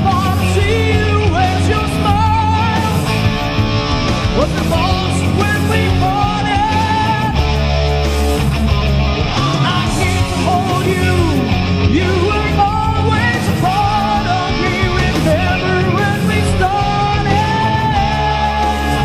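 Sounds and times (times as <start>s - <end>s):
rock band music: 0.0s - 19.0s.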